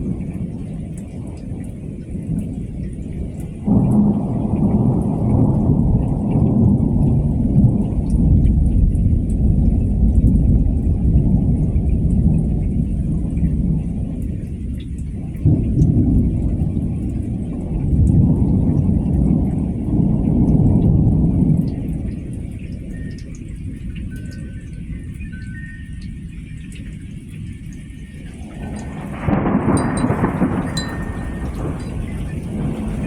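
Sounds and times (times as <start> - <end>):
rain falling: 0.0 - 33.0
thunder clap and rumble: 0.0 - 33.0.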